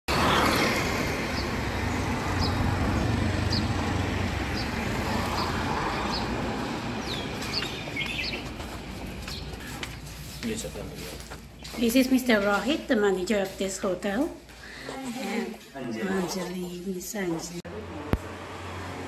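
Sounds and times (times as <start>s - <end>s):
traffic hum: 0.1s - 19.0s.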